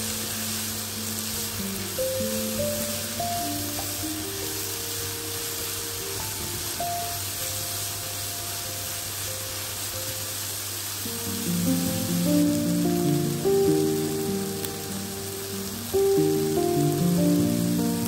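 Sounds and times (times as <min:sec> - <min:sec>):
background music of held notes: 0:00.0 - 0:09.9, 0:11.1 - 0:18.0
food sizzling in a pan: 0:00.0 - 0:18.0.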